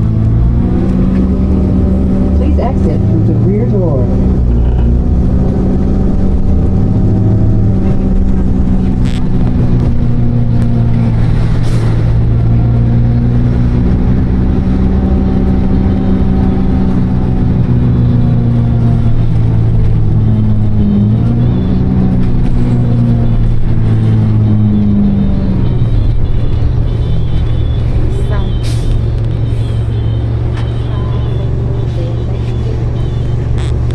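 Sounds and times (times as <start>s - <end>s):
bus engine droning: 0.0s - 33.9s.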